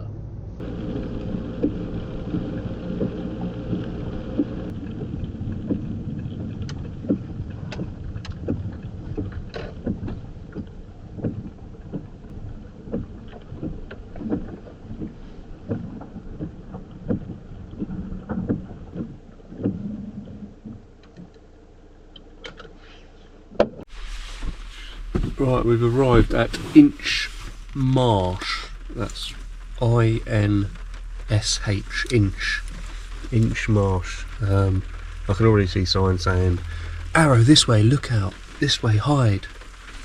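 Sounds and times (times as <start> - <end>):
van engine running: 0.0 - 40.0.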